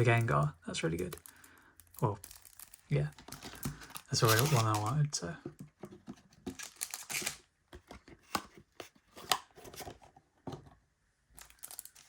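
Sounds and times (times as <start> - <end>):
cards and cardboard handled: 0.0 - 10.8, 11.4 - 12.0.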